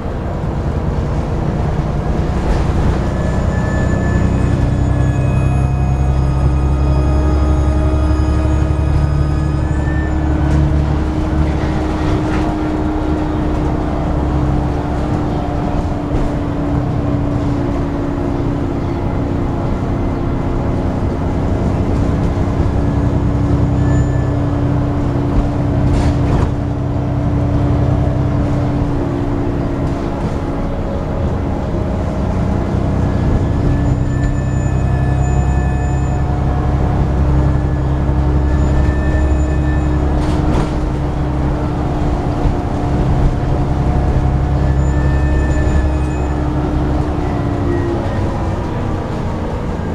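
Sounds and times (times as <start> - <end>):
bus engine whine: 0.0 - 49.9.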